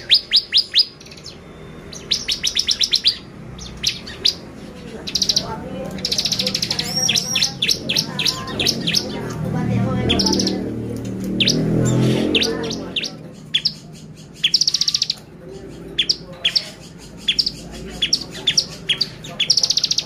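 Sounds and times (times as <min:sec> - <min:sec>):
sharp bird chirps: 0:00.0 - 0:09.4, 0:10.1 - 0:20.0
bird singing buzzy trills: 0:00.0 - 0:20.0.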